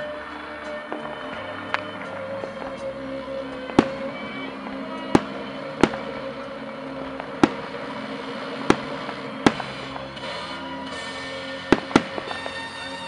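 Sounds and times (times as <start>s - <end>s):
fireworks bursting: 0.0s - 13.0s
music from a radio: 0.0s - 13.0s.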